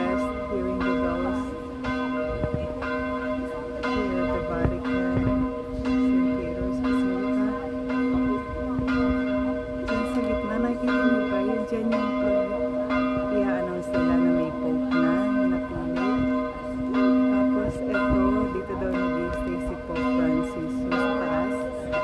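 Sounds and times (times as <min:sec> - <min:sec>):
large church bells ringing: 0:00.0 - 0:22.0.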